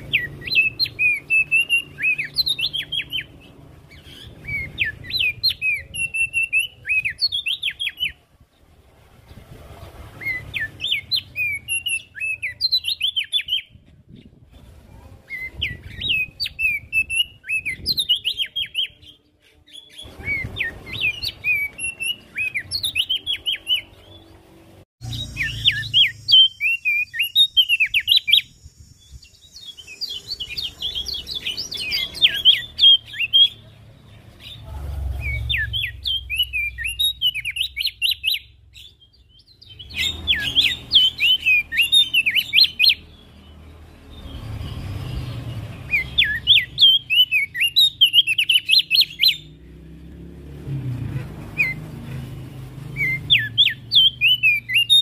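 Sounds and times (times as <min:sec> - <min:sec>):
bird chirping song: 0:00.0 - 0:55.0.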